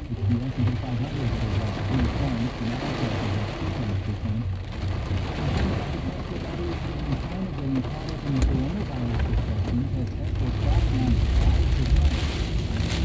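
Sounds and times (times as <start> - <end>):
heavy rain on car windshield: 0.0 - 13.0
low car hum: 0.0 - 13.0.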